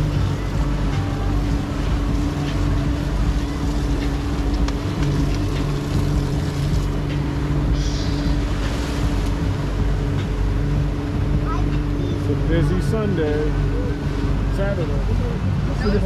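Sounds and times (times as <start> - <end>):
boat motor running: 0.0 - 16.0
wake rushing: 0.0 - 16.0.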